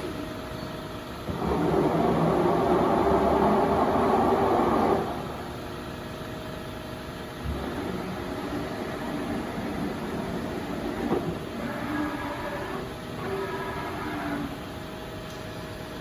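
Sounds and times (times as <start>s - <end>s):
lathe mechanical whir: 1.0s - 16.0s.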